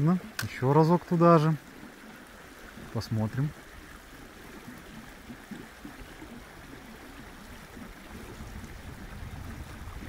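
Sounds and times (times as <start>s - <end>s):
stream flowing: 0.0s - 10.0s.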